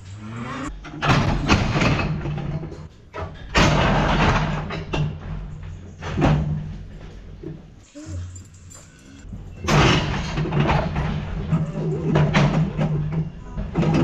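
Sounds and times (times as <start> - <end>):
steel cattle crush clanging: 0.0 - 14.0.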